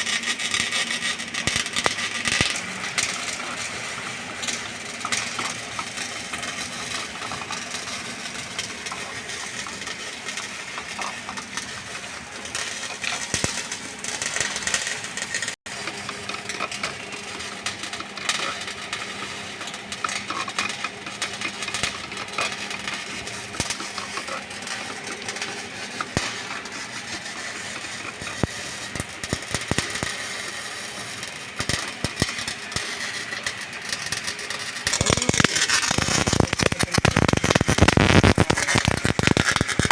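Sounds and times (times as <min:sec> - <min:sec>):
welding arc crackling: 0:00.0 - 0:39.9.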